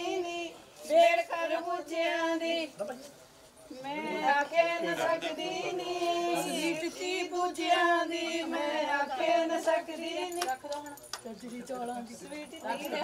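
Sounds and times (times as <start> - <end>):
group singing unaccompanied: 0.0 - 3.1, 3.7 - 10.9, 11.6 - 13.0.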